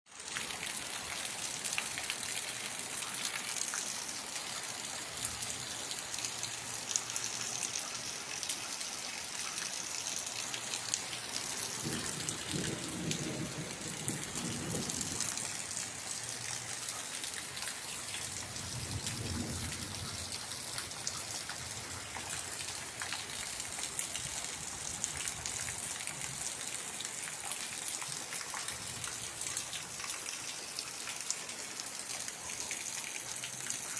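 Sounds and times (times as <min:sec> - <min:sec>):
rain pattering: 0:00.1 - 0:33.9.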